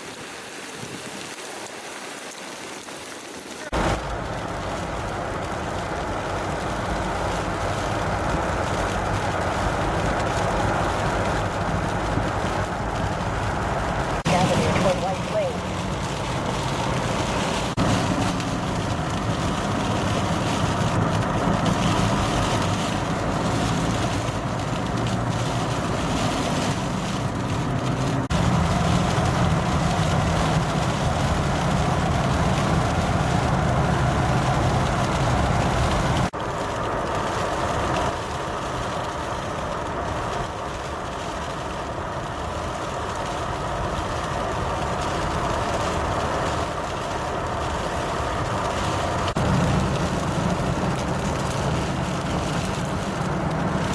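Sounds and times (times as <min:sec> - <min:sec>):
traffic noise: 0:02.8 - 0:53.9
vehicle engines running: 0:03.7 - 0:53.9.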